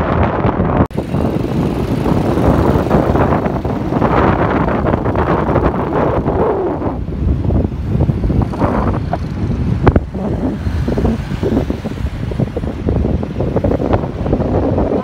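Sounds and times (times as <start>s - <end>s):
motorbike engine and road noise: 0.0s - 15.0s
wind buffeting microphone: 0.0s - 15.0s.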